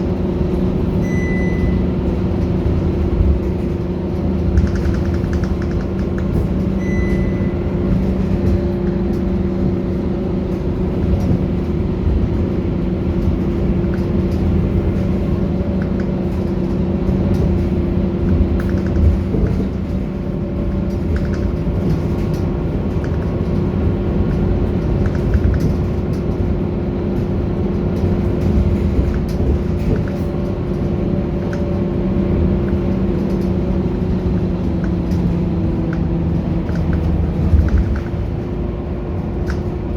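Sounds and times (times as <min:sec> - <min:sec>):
bus diesel engine running: 0:00.0 - 0:39.9
light clicks and rattles: 0:02.1 - 0:06.8, 0:07.8 - 0:39.8.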